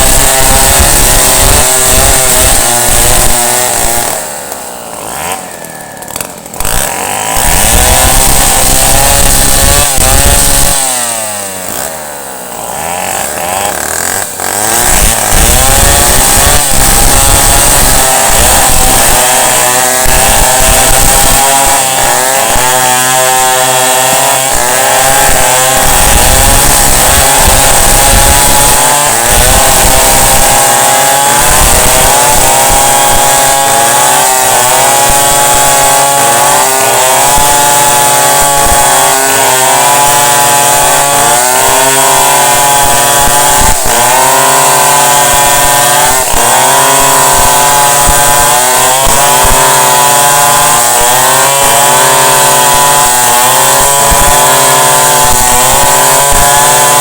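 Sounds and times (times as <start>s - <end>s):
chainsaw cutting a tree: 0.0s - 57.0s.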